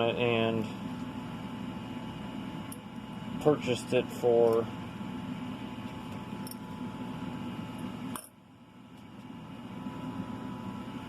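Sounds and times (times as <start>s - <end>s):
fan or air conditioner hum: 0.0s - 11.0s.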